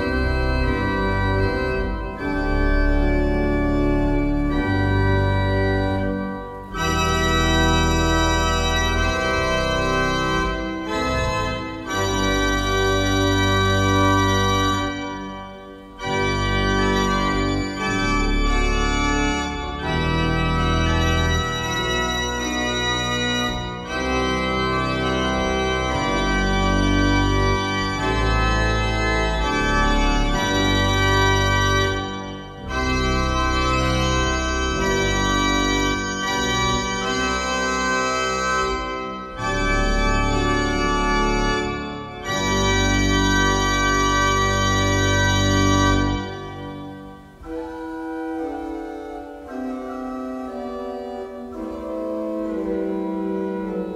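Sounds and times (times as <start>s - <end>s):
pipe organ chords: 0.0s - 53.9s.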